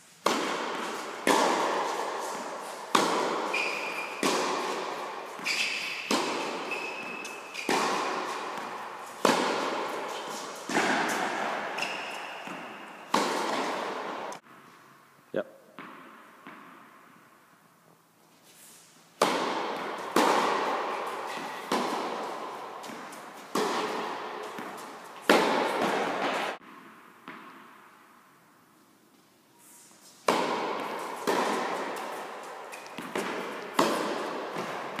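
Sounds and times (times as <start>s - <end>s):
tennis ball bouncing: 0.2s - 14.6s, 15.7s - 17.3s, 19.2s - 28.1s, 30.2s - 35.0s
tennis ball hit by racket: 0.2s - 14.6s, 15.8s - 17.2s, 19.2s - 28.0s, 30.2s - 35.0s.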